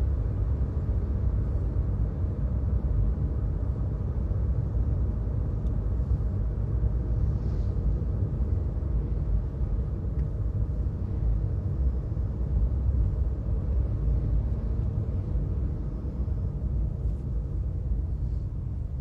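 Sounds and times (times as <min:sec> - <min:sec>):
car driving rumble inside cabin: 0:00.0 - 0:19.0.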